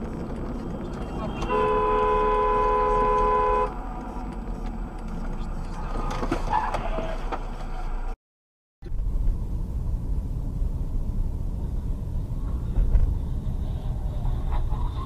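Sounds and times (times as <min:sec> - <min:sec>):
car road and engine rumble: 0:00.0 - 0:08.2, 0:08.8 - 0:15.0.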